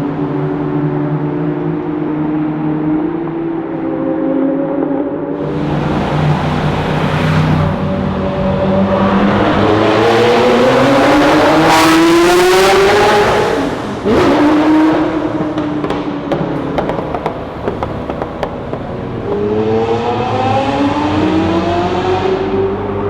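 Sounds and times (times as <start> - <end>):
sports car engine accelerating: 0.0 - 23.0.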